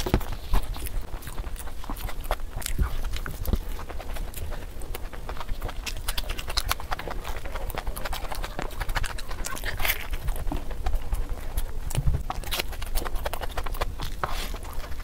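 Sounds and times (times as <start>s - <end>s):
lip smacking: 0.0s - 15.0s
wet chewing: 0.0s - 15.0s.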